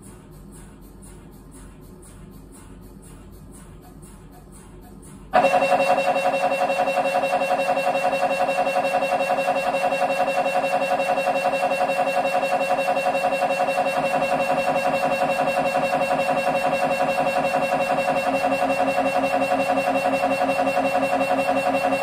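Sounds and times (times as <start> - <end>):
mri scanner buzzing drone: 0.0 - 22.0.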